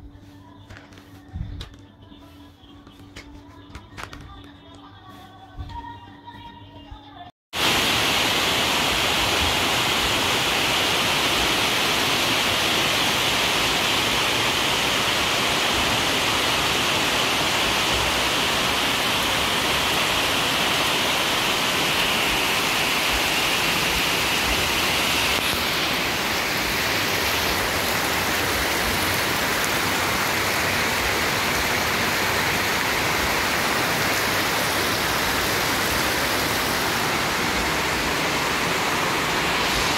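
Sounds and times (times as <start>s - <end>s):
heavy rain: 7.6s - 39.9s.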